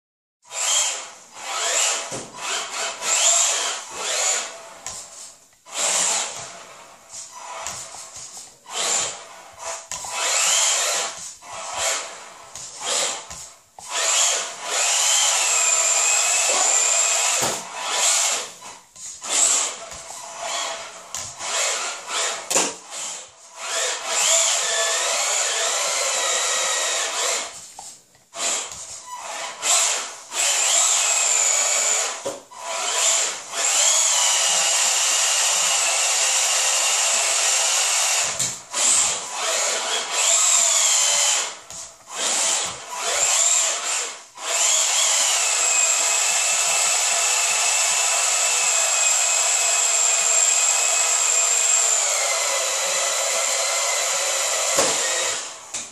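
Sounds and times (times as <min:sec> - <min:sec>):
toy car electric motor whining: 0:00.5 - 0:55.8.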